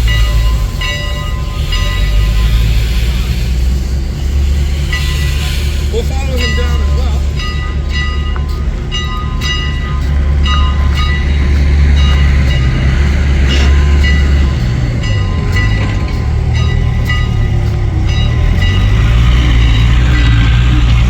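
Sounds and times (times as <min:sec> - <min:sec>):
heavy low engine rumble: 0:00.0 - 0:21.0
locomotive bell ringing: 0:00.0 - 0:21.0.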